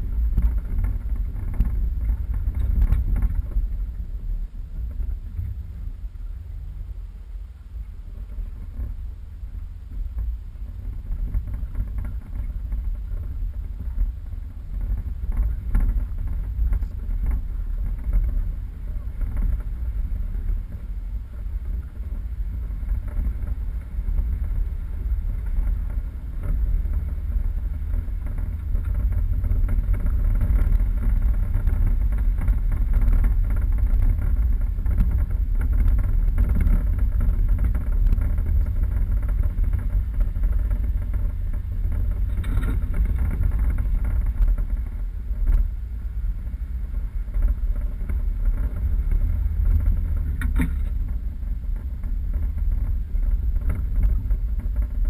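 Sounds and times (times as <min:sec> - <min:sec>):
small knocks and rattles: 0:00.0 - 0:05.8, 0:09.9 - 0:55.0
engine and tyres rumbling: 0:00.0 - 0:55.0.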